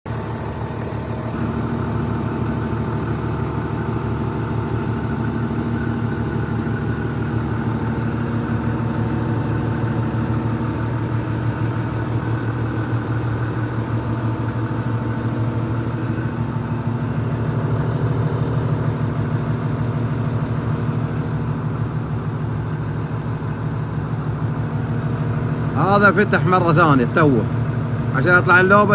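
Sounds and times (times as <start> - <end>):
excavator engine running: 0.1 - 28.9.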